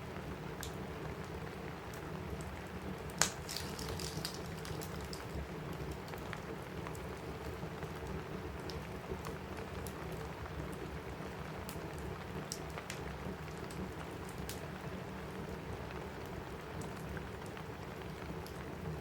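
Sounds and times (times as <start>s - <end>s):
rain on a roof: 0.0s - 19.0s
wood fire crackling: 0.0s - 19.0s.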